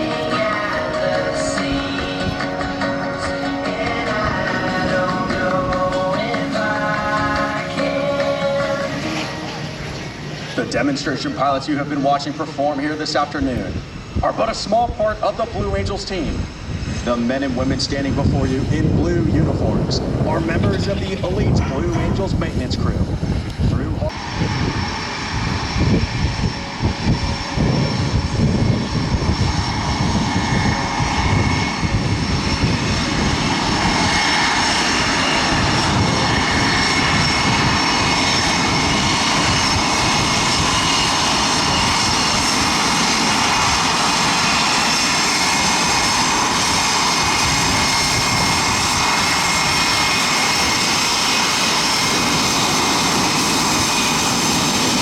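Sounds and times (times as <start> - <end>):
wind buffeting microphone: 0.0 - 10.6, 12.8 - 55.0
jet engines whining: 0.0 - 55.0.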